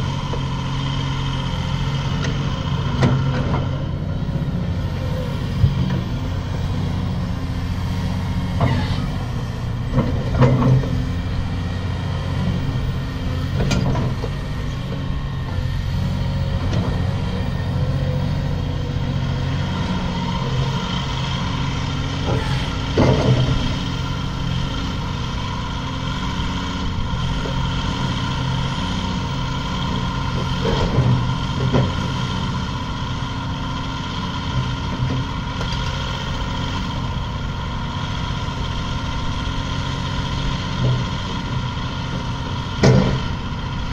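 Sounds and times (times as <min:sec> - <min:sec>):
excavator diesel engine running: 0:00.0 - 0:43.9
hydraulic whine: 0:00.0 - 0:43.9.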